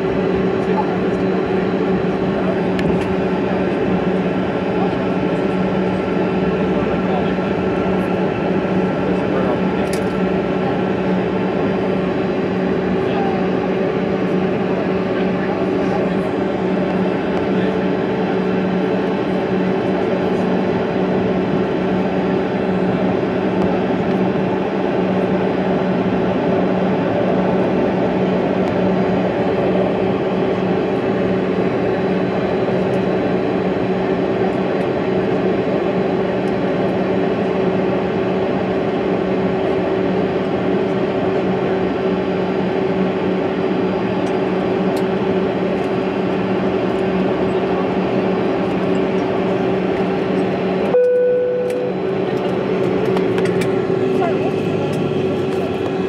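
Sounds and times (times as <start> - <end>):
jet cabin drone: 0.0 - 56.0.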